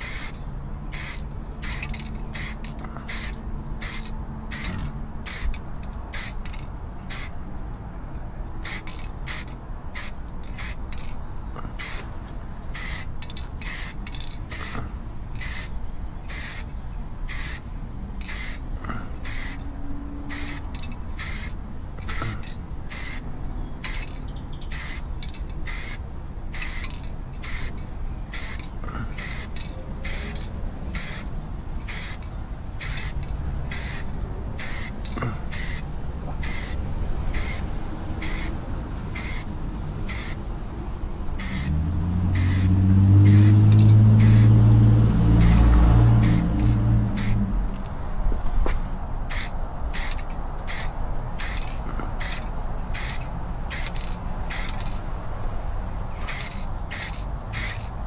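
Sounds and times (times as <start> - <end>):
paint spray hissing bursts: 0.0 - 7.4, 8.6 - 11.1, 11.8 - 12.1, 12.7 - 16.7, 17.3 - 17.6, 18.2 - 19.7, 20.3 - 40.5, 41.4 - 47.4, 49.2 - 55.0, 56.2 - 57.9.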